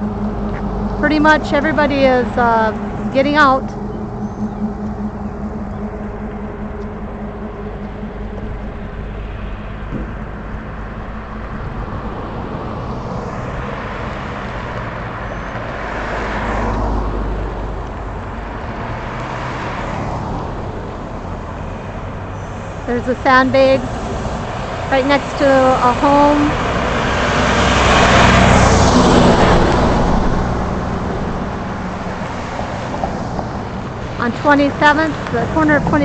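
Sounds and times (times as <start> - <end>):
road traffic engine rumble: 0.0 - 36.0
vehicle passing by: 0.0 - 36.0.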